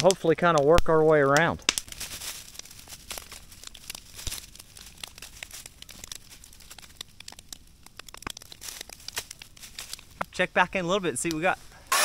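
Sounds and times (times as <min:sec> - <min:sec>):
brush pile fire crackling: 0:00.0 - 0:12.0
sharp snaps of burning wood: 0:00.0 - 0:12.0
steady fire hiss: 0:00.0 - 0:12.0.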